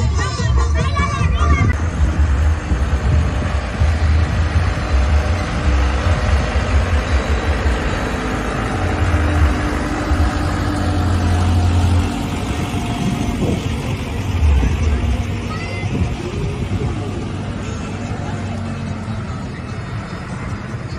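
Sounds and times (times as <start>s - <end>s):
vehicle engine rumbling: 0.0s - 20.9s.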